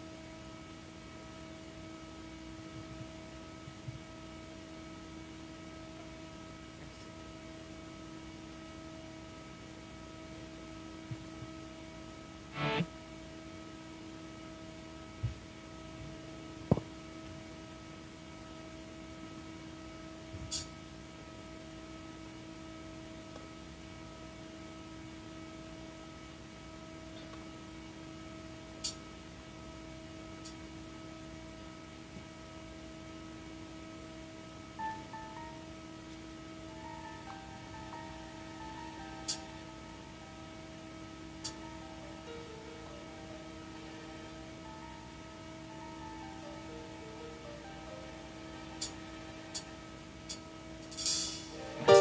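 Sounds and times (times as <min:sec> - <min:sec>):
electrical hum from speakers: 0:00.0 - 0:52.0.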